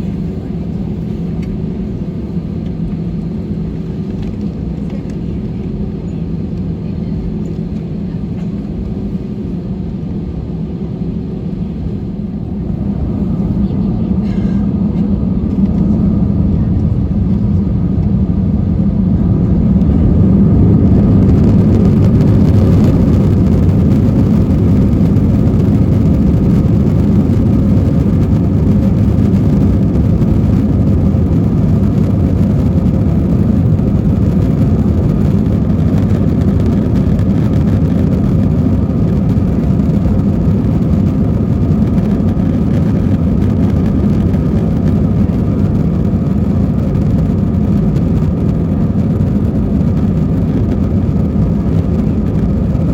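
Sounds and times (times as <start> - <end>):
jet cabin engine rumble: 0.0 - 52.9.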